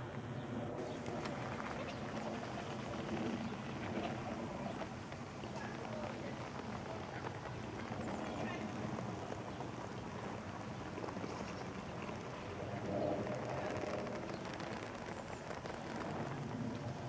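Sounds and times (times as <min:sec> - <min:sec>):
light rain pattering on foliage: 0:00.2 - 0:17.0.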